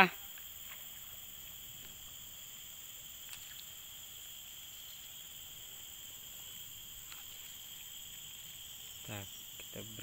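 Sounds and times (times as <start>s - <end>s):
insects chorus: 0.0s - 10.0s.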